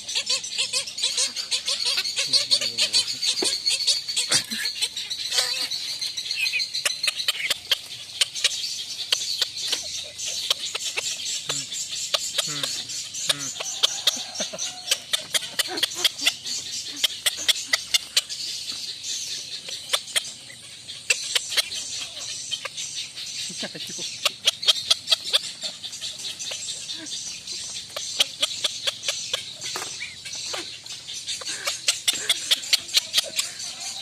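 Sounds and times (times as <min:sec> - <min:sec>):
bird calling: 0:00.0 - 0:34.0.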